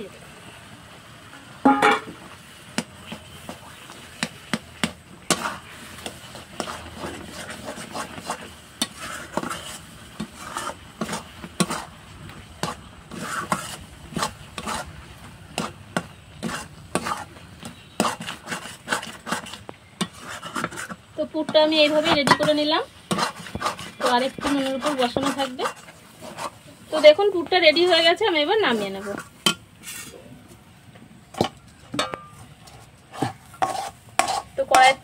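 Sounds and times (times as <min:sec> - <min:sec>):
spatula scraping and knocking pan: 0:01.7 - 0:30.2, 0:31.3 - 0:35.0.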